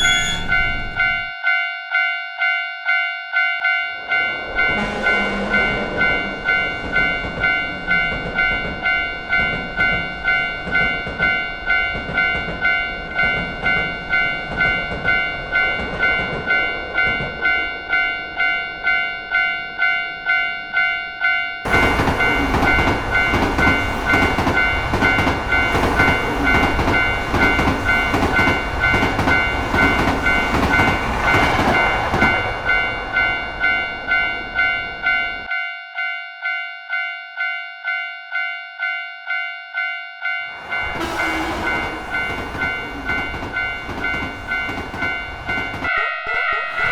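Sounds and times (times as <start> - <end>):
passing train rumble and clatter: 0.0 - 1.3, 3.8 - 20.9, 21.6 - 35.5, 40.5 - 46.9
railroad crossing bell ringing: 0.0 - 46.1.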